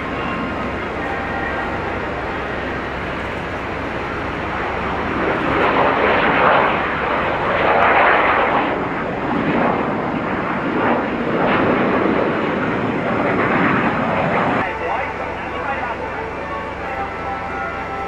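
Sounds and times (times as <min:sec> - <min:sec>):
jet aircraft roaring overhead: 0:00.0 - 0:18.0.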